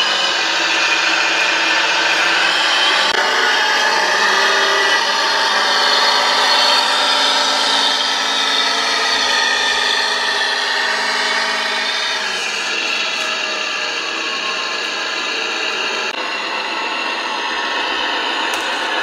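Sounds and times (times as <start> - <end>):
model tractor electric whine: 0.0 - 19.0.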